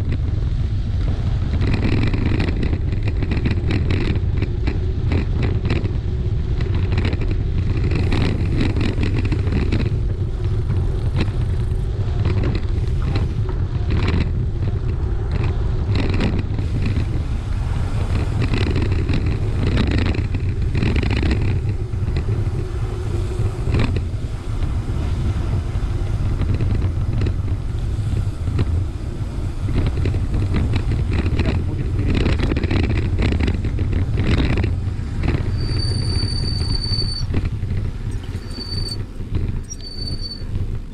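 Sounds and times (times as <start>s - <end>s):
bicycle rattling over dirt track: 0.0s - 40.9s
low rumble of wind on microphone: 0.0s - 40.9s.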